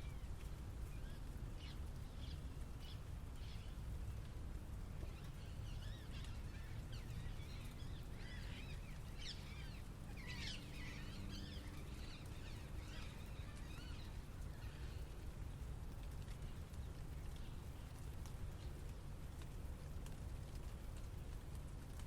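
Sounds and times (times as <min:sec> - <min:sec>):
small birds chirping: 0:00.0 - 0:18.9
low city rumble: 0:00.0 - 0:22.0.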